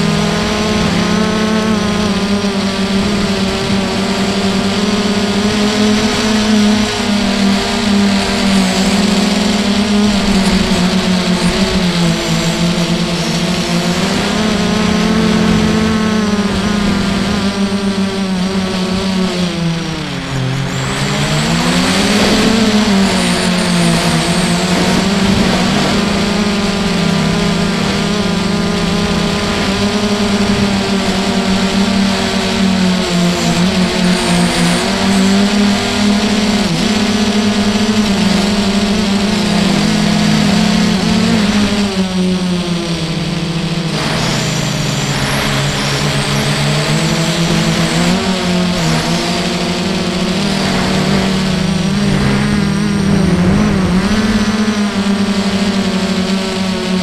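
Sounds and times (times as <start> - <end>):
quadcopter buzzing whine: 0.0 - 57.0.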